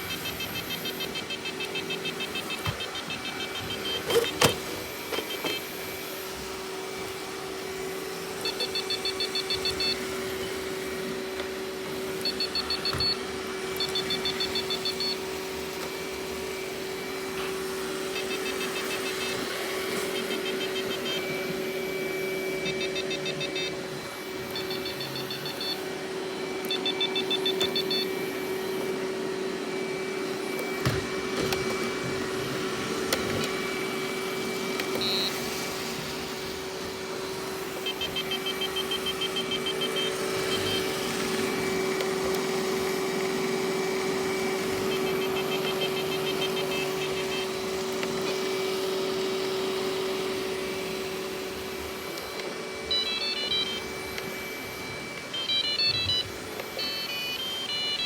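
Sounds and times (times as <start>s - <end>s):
robot vacuum motor hum: 0.0s - 58.0s.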